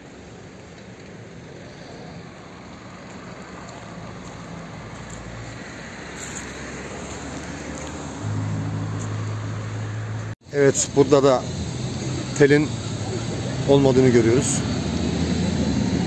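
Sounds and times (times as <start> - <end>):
low steady engine hum: 0.0 - 16.0
road traffic noise: 0.0 - 16.0.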